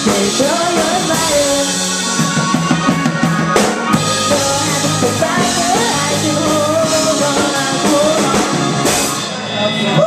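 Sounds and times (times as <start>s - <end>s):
drum kit: 0.0s - 10.0s
rock band playing: 0.0s - 10.0s.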